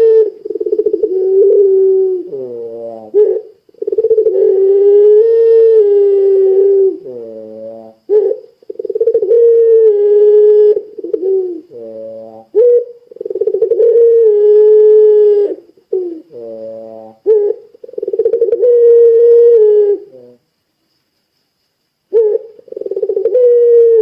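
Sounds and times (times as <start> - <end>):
dove cooing: 0.0 - 20.4, 22.1 - 24.0.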